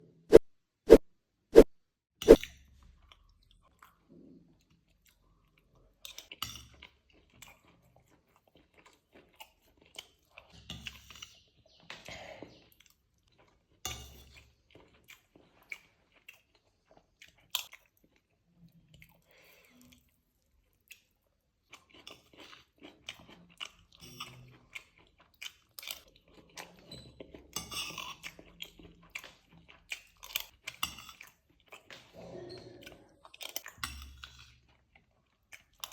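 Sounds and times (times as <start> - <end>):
person chewing crisp food: 2.4 - 11.8, 12.4 - 32.2, 32.8 - 35.9.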